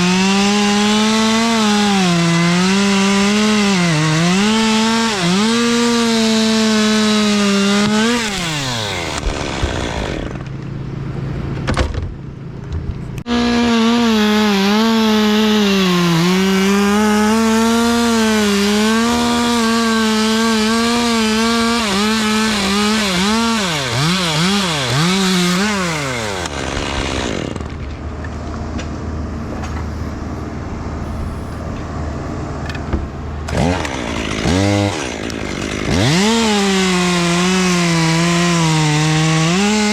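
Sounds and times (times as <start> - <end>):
chainsaw cutting wood: 0.0 - 10.7, 13.2 - 28.0, 31.0 - 39.9.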